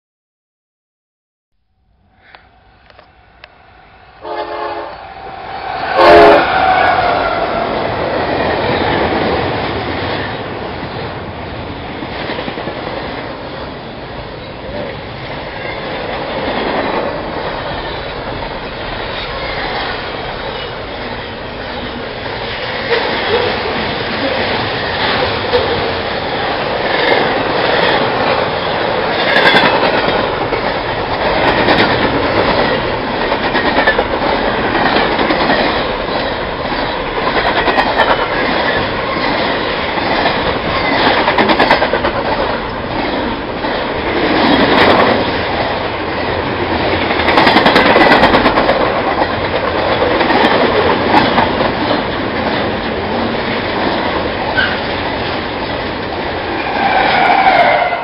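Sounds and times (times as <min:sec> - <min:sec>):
train wheels clattering on rails: 0:05.6 - 0:58.0.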